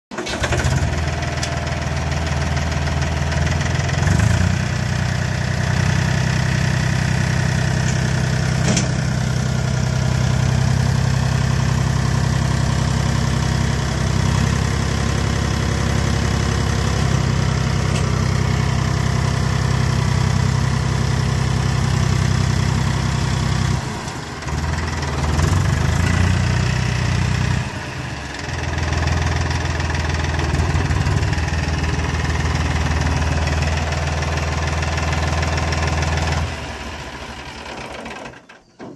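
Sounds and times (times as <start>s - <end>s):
tractor diesel engine idling: 0.1s - 38.9s.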